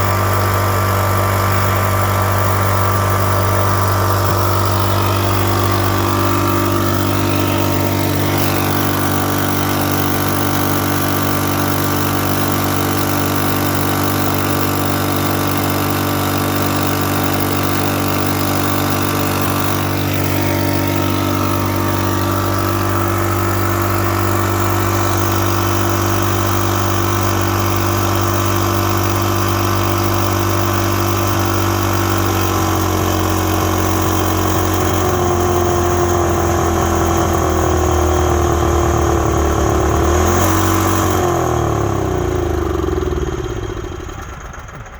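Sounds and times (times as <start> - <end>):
portable generator engine running: 0.0 - 44.9.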